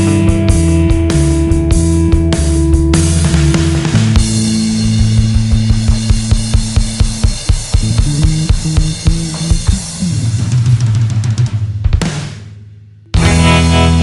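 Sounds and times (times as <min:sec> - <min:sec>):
drum kit beat: 0:00.0 - 0:14.0
rock music: 0:00.0 - 0:14.0.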